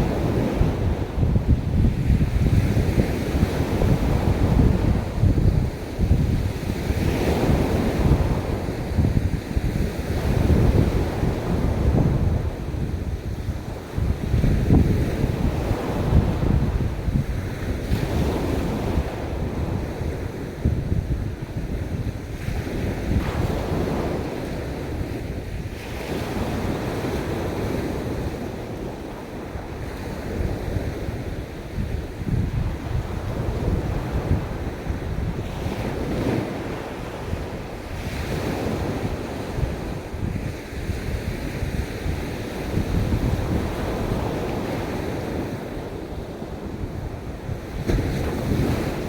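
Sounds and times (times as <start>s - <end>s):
ocean surf washing on beach: 0.0s - 49.0s
wind buffeting microphone: 0.0s - 49.0s.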